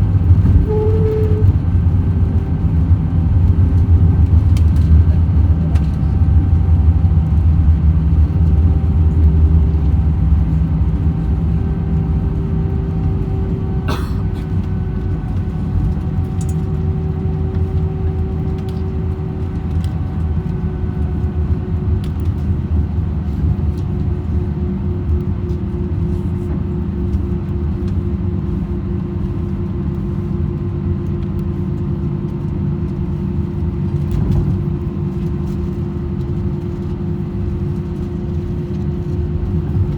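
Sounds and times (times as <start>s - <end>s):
aircraft wheels rumbling: 0.0s - 39.9s.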